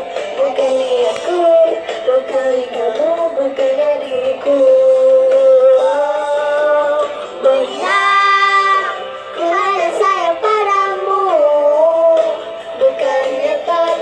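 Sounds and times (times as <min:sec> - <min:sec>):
backing music: 0:00.0 - 0:14.0.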